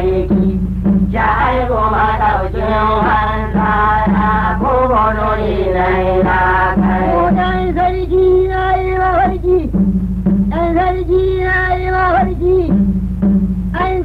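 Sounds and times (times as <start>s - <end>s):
low pulsing accompaniment: 0.0s - 14.0s.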